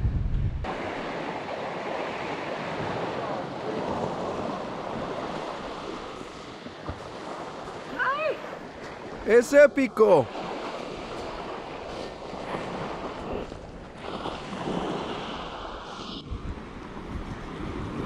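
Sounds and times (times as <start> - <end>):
sea waves on rocky shore: 0.7 - 18.0.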